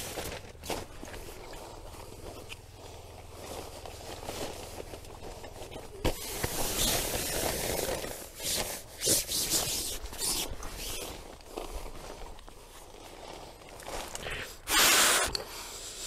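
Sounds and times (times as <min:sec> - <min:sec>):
rustling and scraping: 0:00.0 - 0:15.8.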